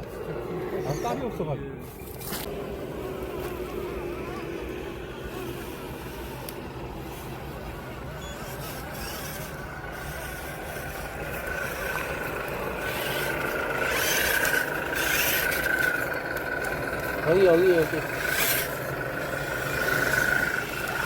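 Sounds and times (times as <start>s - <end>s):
electric motor whining: 0.0s - 21.0s
tyres scraping over ground: 0.0s - 21.0s.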